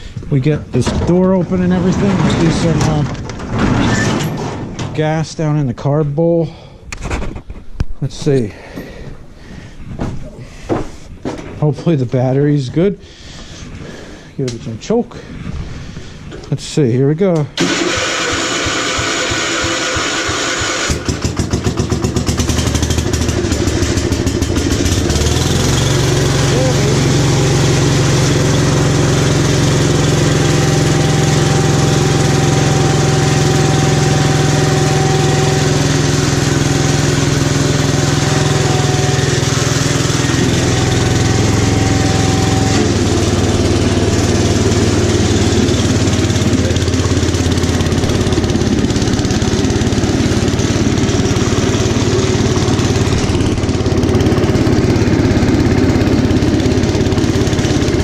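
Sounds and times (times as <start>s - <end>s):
tractor engine running: 0.0s - 6.1s, 17.4s - 58.0s.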